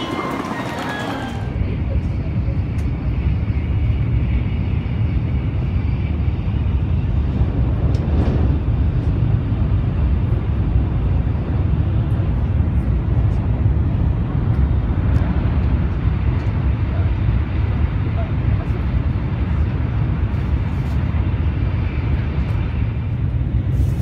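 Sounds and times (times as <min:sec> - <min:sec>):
train cabin rumble: 0:00.0 - 0:24.0.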